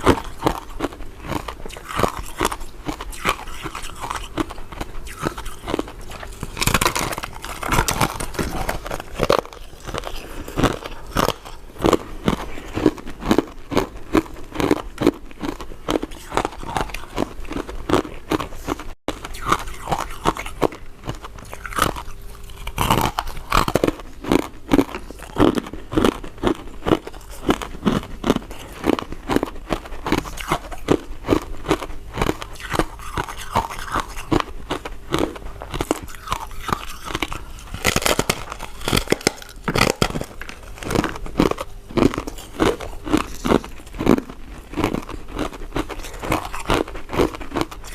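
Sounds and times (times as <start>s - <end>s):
chewing mint candies: 0.0s - 47.9s
mouth clicks and smacks: 0.0s - 47.9s.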